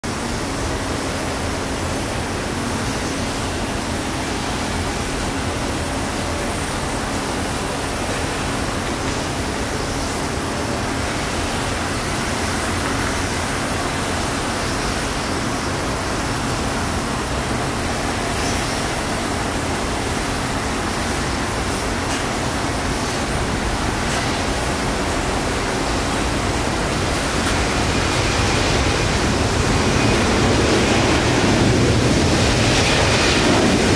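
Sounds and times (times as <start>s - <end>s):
distant jet engines: 0.1s - 33.9s.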